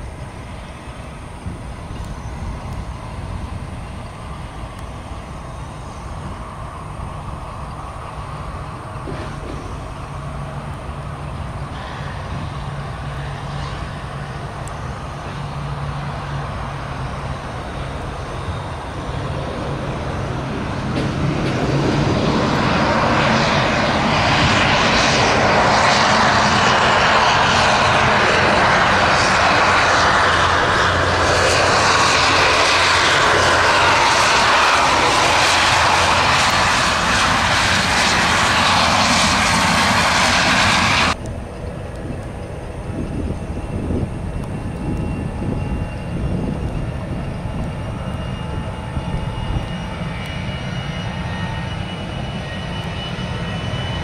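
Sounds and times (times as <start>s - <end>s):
jet engines passing close: 0.0s - 54.0s.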